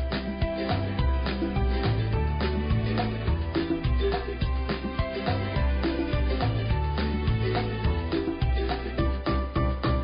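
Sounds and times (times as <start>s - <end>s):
instrumental music with plucked notes: 0.0s - 10.0s.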